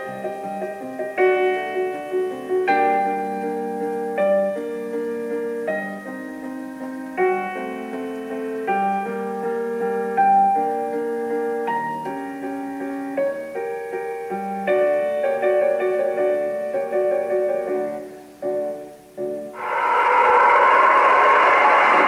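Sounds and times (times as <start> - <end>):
slow solo piano music: 0.0 - 19.6.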